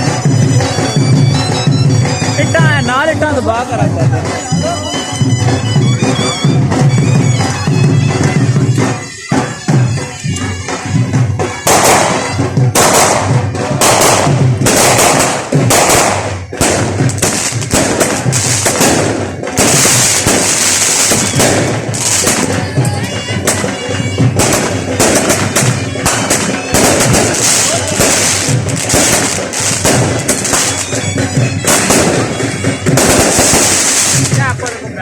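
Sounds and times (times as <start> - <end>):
firecrackers crackling: 0.0 - 35.0
music playing: 0.0 - 35.0.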